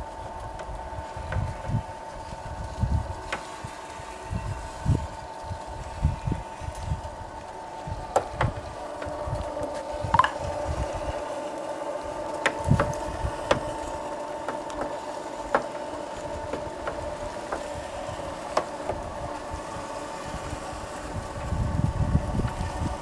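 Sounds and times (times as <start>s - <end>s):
electric motor humming and whining: 0.0s - 23.0s.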